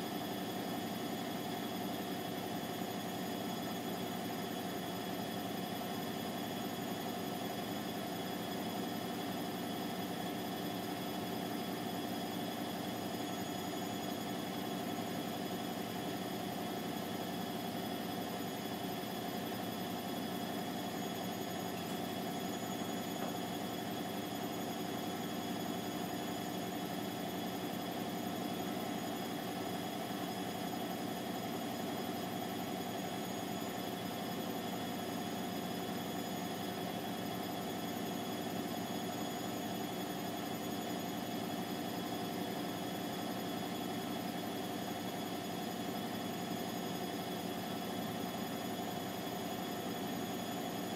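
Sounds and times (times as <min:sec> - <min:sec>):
washing machine spinning: 0:00.0 - 0:50.9.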